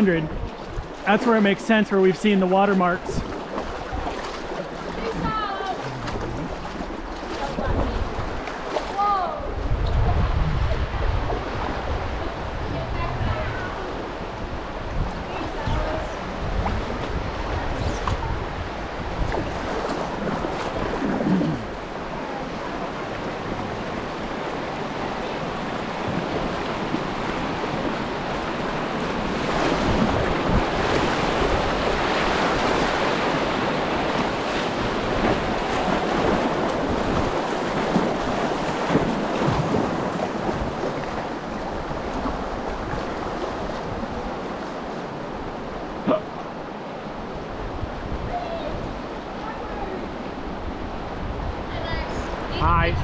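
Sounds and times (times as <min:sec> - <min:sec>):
river water rushing: 0:00.0 - 0:09.8, 0:10.8 - 0:52.9.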